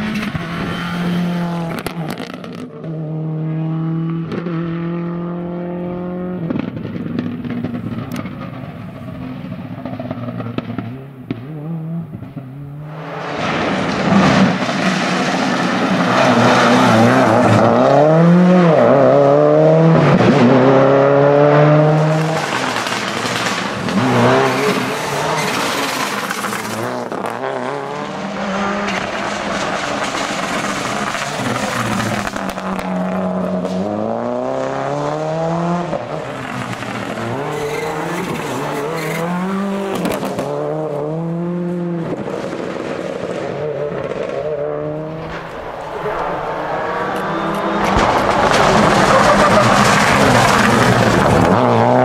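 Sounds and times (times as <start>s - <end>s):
rally car engine revving: 0.0s - 52.0s.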